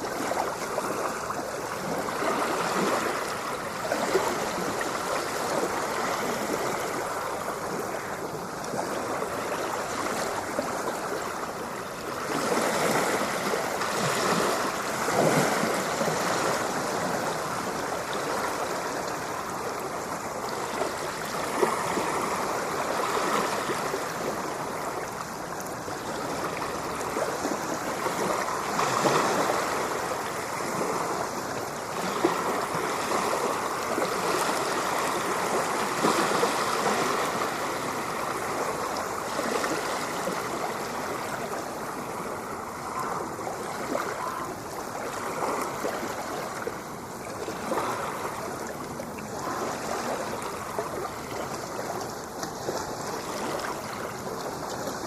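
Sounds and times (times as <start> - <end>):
ocean surf washing: 0.0 - 55.0.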